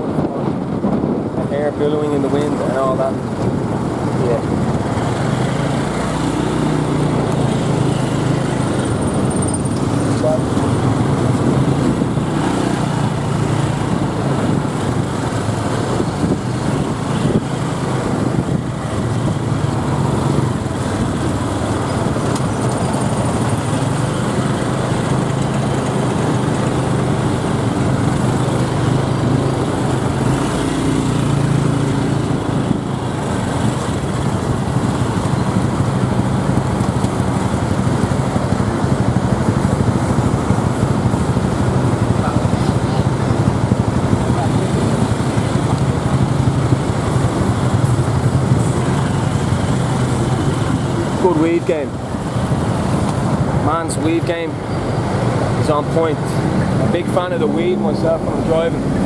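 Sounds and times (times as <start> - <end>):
city traffic noise: 0.0 - 59.0
motorbike engine running: 2.1 - 59.0.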